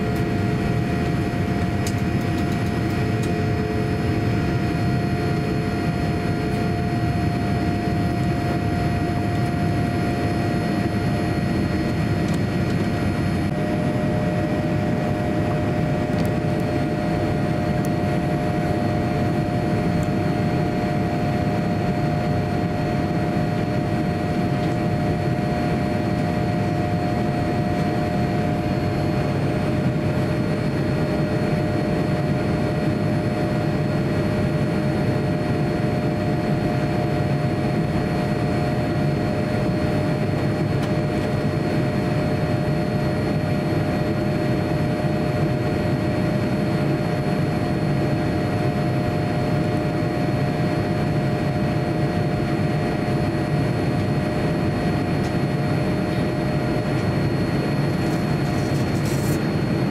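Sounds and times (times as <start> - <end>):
constant low hum: 0.0 - 59.9
faint steady whines: 0.0 - 59.9
rush of air and jet engines: 0.0 - 59.9.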